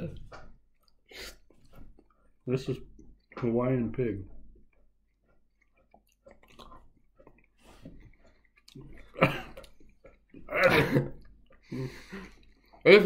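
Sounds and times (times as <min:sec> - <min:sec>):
people chewing: 0:00.0 - 0:13.0.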